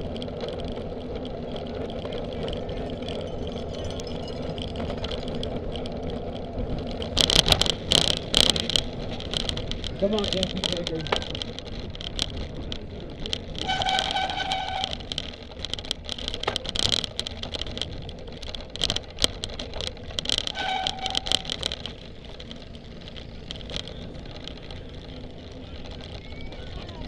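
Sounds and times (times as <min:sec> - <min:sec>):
sharp rattling clicks: 0:00.0 - 0:27.0
wind and ground rumble: 0:00.0 - 0:27.0.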